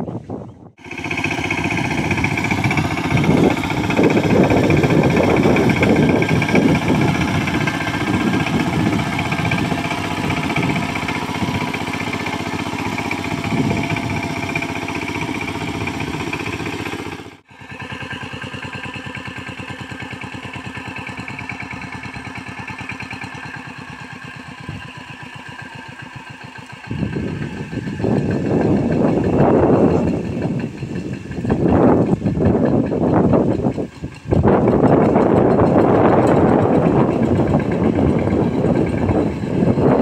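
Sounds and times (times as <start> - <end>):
power tiller engine running: 0.8 - 40.0.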